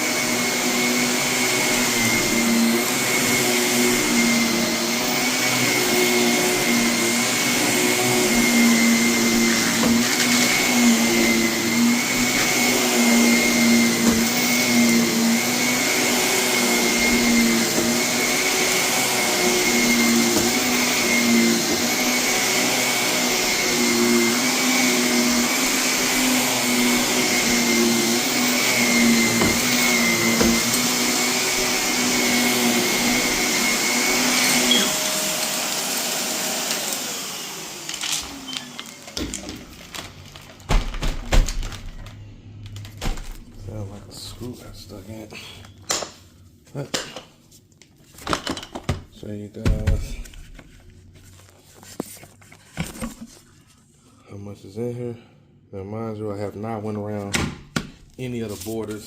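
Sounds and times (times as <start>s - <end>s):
vacuum cleaner running: 0.0s - 45.7s, 48.2s - 50.8s.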